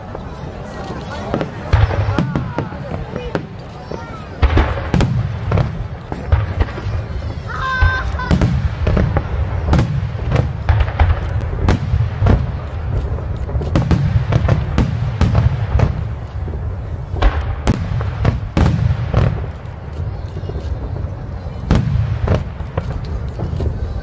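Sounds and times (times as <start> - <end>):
fireworks booming: 0.0 - 24.0
sharp fireworks cracks: 0.0 - 24.0.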